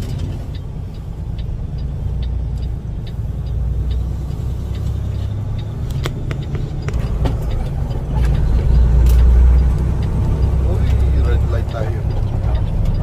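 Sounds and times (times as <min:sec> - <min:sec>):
light ticks: 0:00.0 - 0:13.0
truck engine and road noise: 0:00.0 - 0:13.0.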